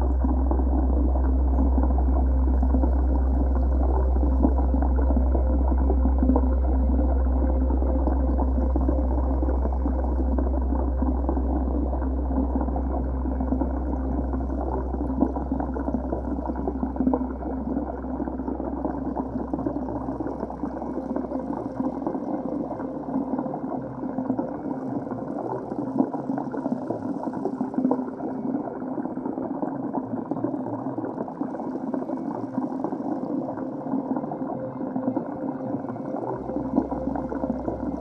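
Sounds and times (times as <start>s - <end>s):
low underwater rumble: 0.0s - 38.0s
underwater rushing and bubbling: 0.0s - 38.0s.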